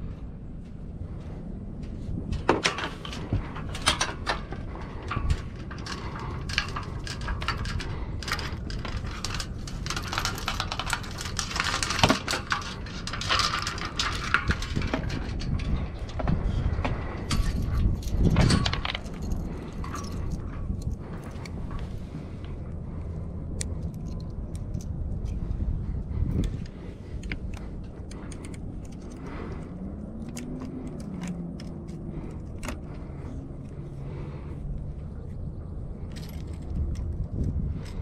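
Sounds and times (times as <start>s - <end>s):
metal rigging clinks and rattles: 2.4s - 38.0s.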